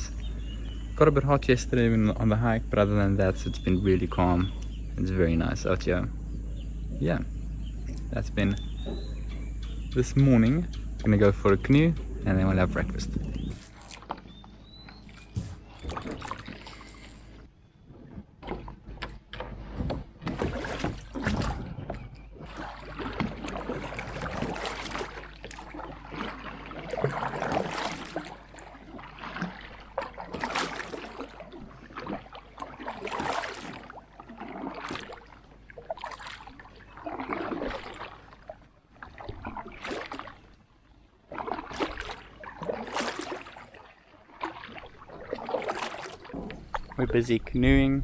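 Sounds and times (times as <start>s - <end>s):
canoe paddle splashing water: 0.0s - 47.7s.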